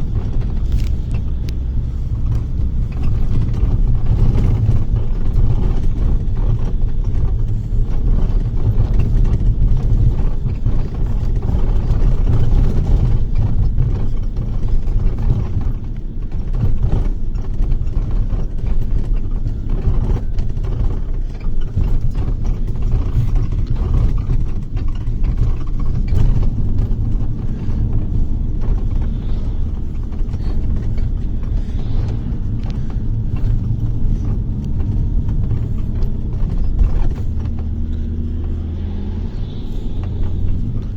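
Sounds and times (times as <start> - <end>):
bodywork knocking and rattling: 0.0 - 40.9
bus engine and tyres rumbling: 0.0 - 40.9.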